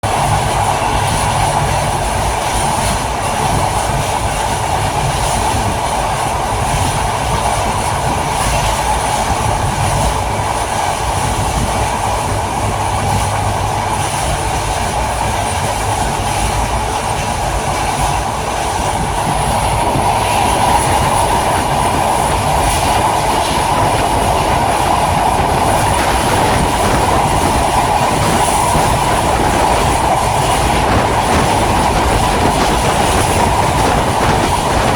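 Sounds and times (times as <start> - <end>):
train running on rails: 0.0 - 34.9.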